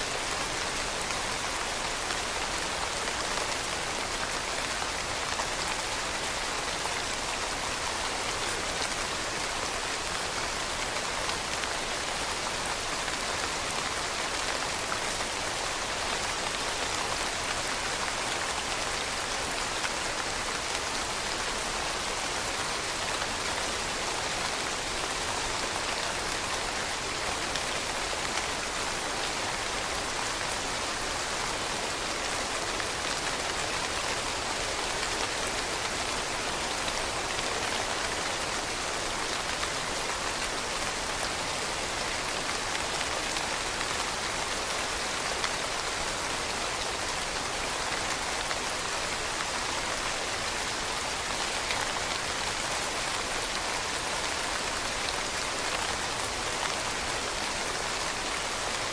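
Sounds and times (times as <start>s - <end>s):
rain pattering on leaves: 0.0s - 58.9s.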